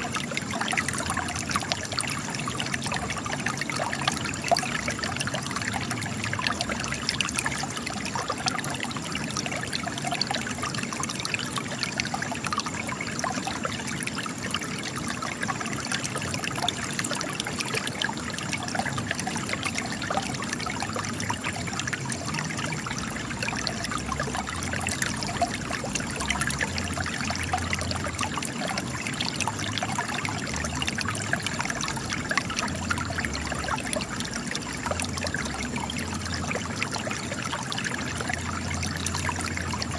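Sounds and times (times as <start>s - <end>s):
spring water trickling and splashing: 0.0s - 39.9s.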